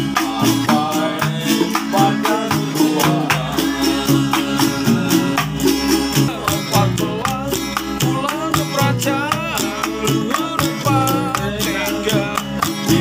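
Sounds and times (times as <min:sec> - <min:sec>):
hand drumming on containers: 0:00.0 - 0:13.0
man singing: 0:00.0 - 0:13.0
strummed acoustic guitar and ukulele: 0:00.0 - 0:13.0.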